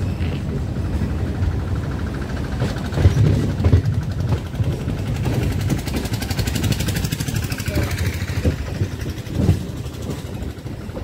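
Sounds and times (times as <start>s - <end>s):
electric train rumbling: 0.0s - 11.0s
wheels clattering over rails: 0.0s - 11.0s.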